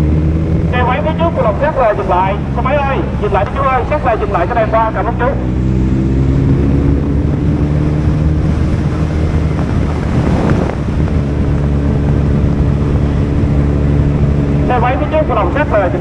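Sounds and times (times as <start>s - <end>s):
motorcycle engine cruising: 0.0s - 16.0s
wind rushing on microphone: 0.0s - 16.0s.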